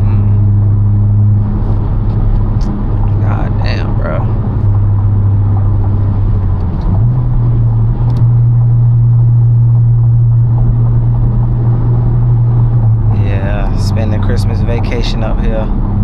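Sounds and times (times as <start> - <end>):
car engine drone: 0.0 - 16.0
road noise: 0.0 - 16.0.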